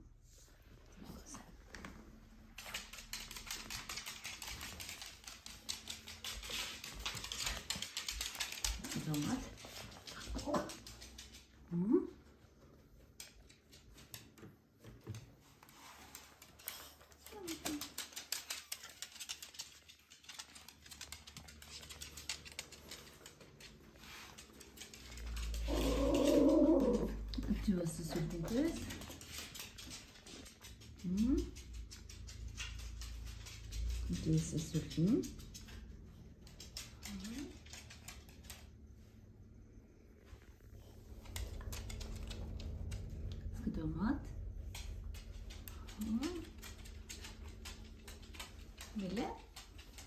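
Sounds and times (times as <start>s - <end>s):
dog claws clicking on wooden floor: 1.8s - 11.6s, 13.1s - 38.8s, 41.1s - 43.5s, 44.3s - 50.0s.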